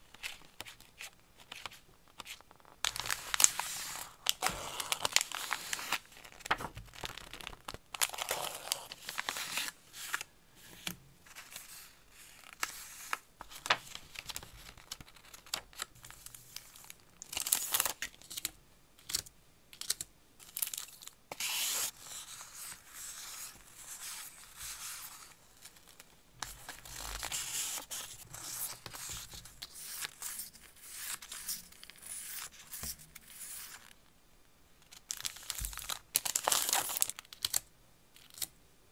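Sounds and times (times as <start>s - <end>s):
paper rustling and crinkling: 0.1s - 18.5s, 20.6s - 33.9s.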